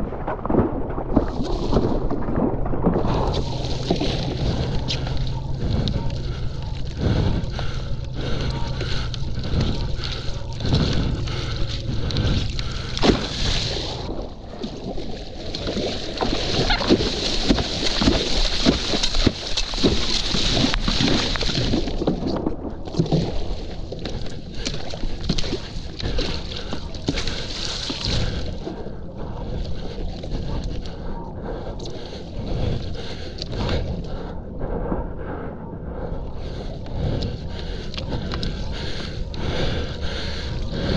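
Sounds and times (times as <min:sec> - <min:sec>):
water splashing and sloshing: 0:00.0 - 0:40.9
wind rumble on microphone: 0:00.0 - 0:40.9.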